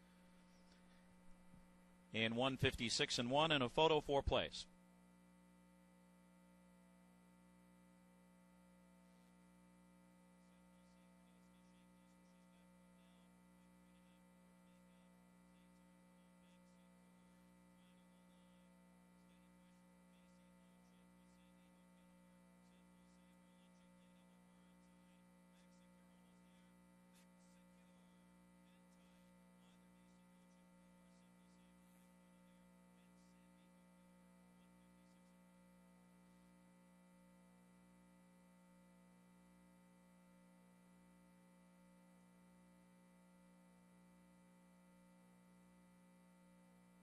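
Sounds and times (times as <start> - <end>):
faint electrical mains hum: 0.0 - 47.0.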